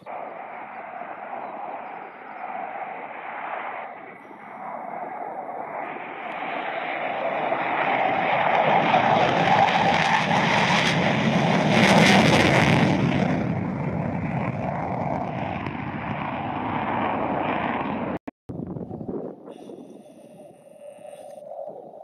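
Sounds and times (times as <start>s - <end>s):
jet taking off on afterburner: 0.0s - 22.0s.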